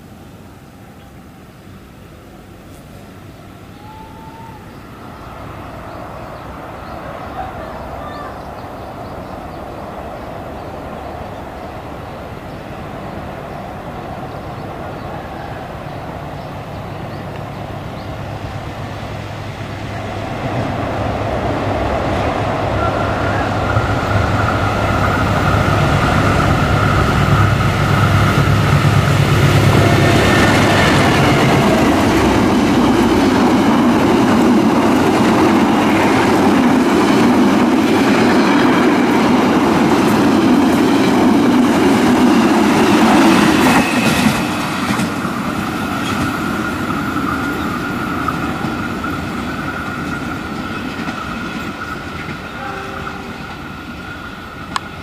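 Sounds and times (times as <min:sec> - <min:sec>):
locomotive engine hum: 0:00.0 - 0:55.0
train wheels rumbling on rails: 0:00.0 - 0:55.0.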